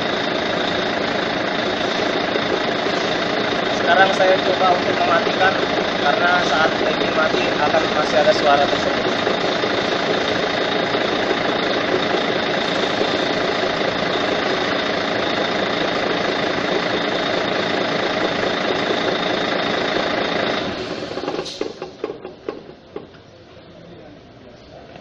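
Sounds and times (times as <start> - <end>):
engine knocks and rattles: 0.0 - 23.3
diesel engine idling: 0.0 - 24.4.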